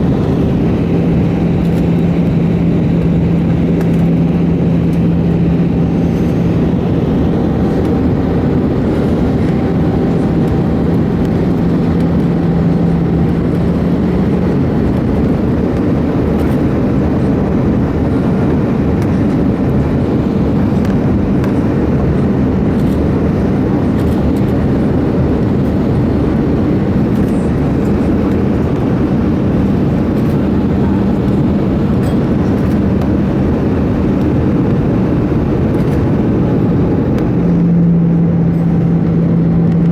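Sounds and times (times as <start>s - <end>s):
airflow rush in aircraft cabin: 0.0s - 39.9s
jet engine hum: 0.0s - 39.9s
low steady engine tone: 0.0s - 39.9s.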